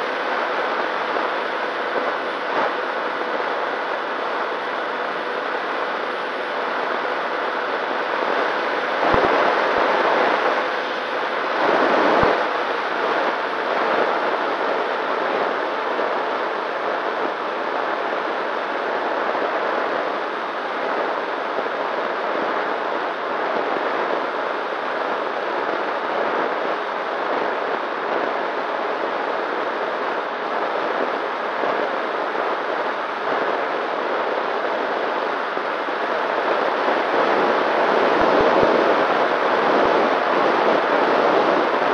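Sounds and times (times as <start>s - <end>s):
wind rushing over camera: 0.1s - 41.9s.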